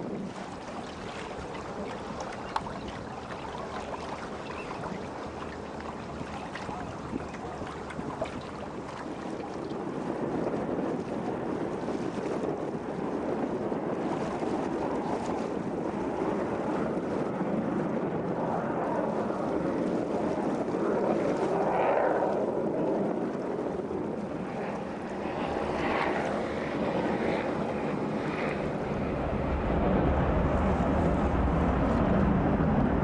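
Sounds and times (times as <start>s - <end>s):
water rushing along boat hull: 0.0s - 33.0s
wind buffeting microphone: 0.0s - 33.0s.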